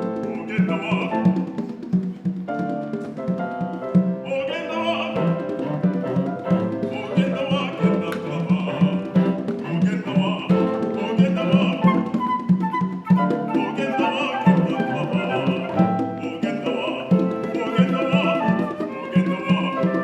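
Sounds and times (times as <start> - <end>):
conga drum rhythm: 0.0 - 20.0.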